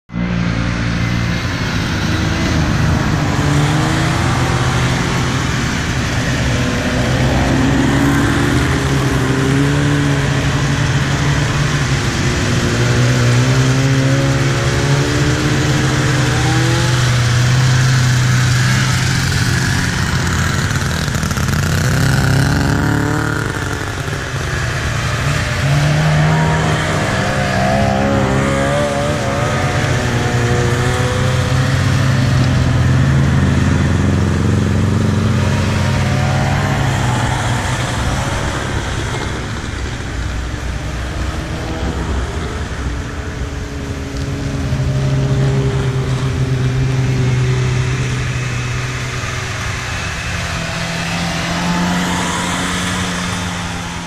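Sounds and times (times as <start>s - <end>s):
snowmobile engines passing: 0.1s - 54.0s.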